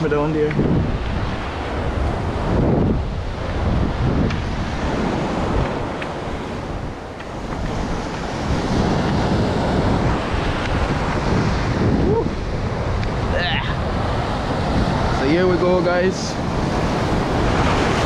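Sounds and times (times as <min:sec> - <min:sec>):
surf washing among rocks: 0:00.0 - 0:18.0
wind rumble on microphone: 0:00.0 - 0:18.0.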